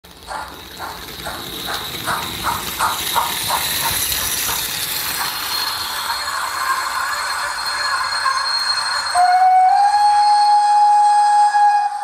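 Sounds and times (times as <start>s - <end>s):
model locomotive steam chuffing: 0.1s - 11.8s
steady high whine: 0.2s - 10.7s.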